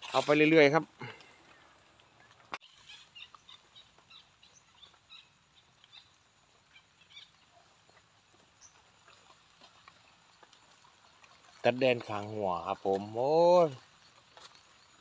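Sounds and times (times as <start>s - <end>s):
faint rural outdoor ambience: 0.0s - 15.0s.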